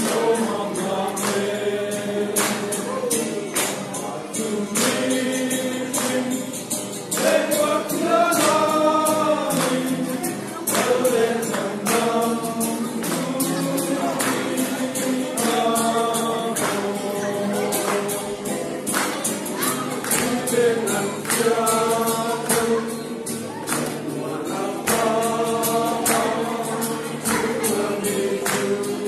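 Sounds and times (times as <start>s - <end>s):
men singing in chorus: 0.0s - 18.9s, 20.1s - 29.0s.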